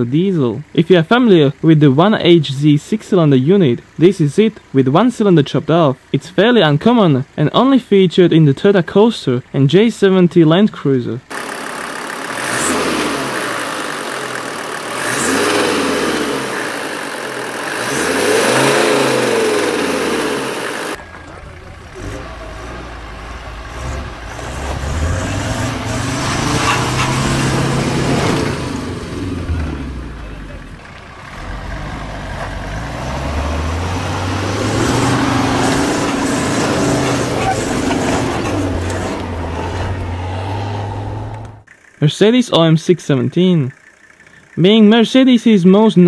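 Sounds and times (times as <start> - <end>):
diesel engine idling and revving: 0.0 - 8.5, 11.2 - 45.3.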